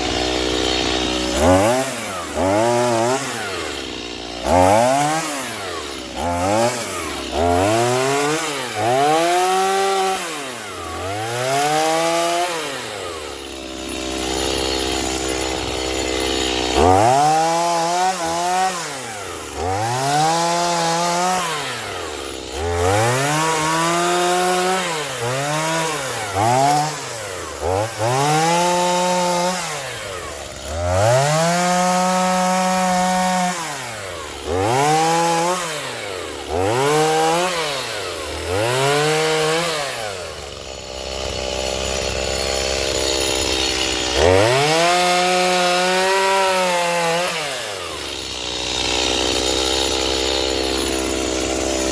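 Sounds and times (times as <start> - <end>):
chainsaw revving: 0.0 - 51.9.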